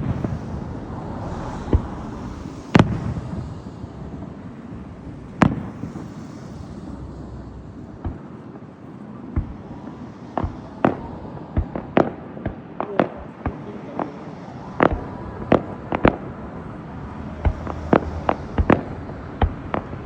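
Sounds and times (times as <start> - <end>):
fireworks bangs: 0.0 - 6.4, 7.9 - 14.1, 14.8 - 20.0
continuous low rumble: 0.0 - 20.0.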